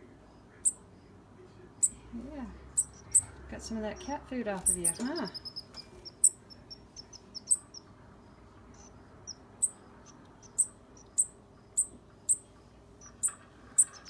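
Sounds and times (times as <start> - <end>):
fledgling birds chirping: 0.0 - 14.0.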